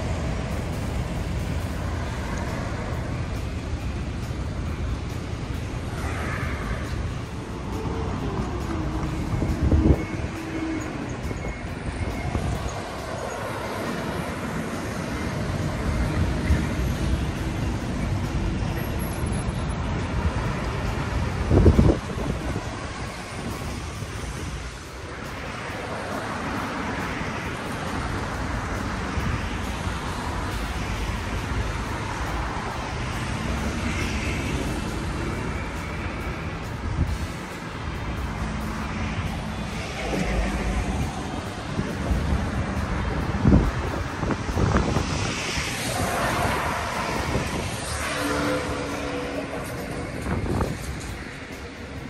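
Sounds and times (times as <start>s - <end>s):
cars passing: 0.0s - 52.0s
road traffic rumble: 0.0s - 52.0s.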